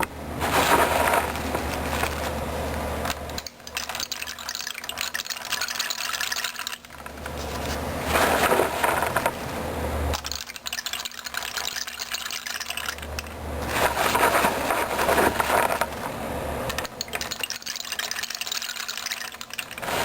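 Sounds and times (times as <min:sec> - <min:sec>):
beans rattling in a rain stick: 0:00.4 - 0:16.1, 0:16.7 - 0:20.0.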